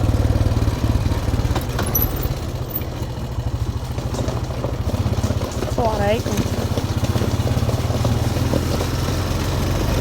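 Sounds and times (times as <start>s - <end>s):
off-road vehicle engine: 0.0s - 10.0s.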